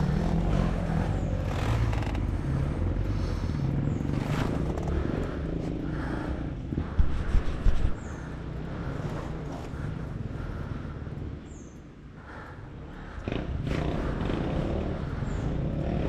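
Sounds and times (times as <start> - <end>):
dirt bike engine running: 0.0 - 11.2, 13.0 - 16.0.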